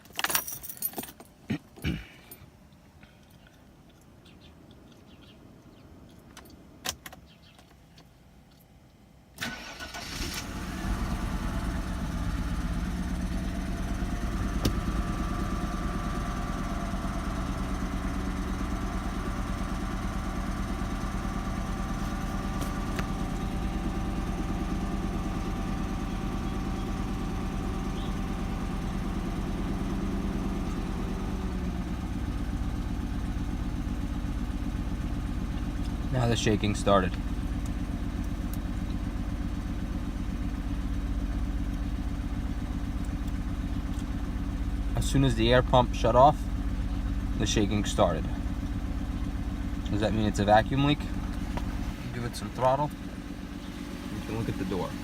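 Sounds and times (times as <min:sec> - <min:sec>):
car engine cranking and starting: 0:09.3 - 0:55.0
car engine idling: 0:09.4 - 0:55.0.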